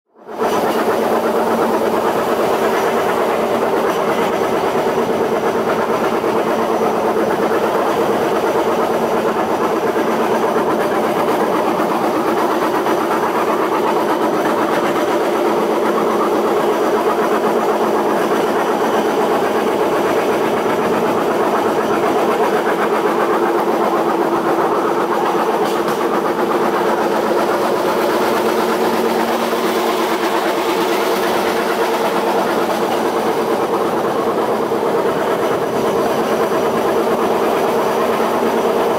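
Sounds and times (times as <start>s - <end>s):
wheels on rails: 0.2s - 38.9s.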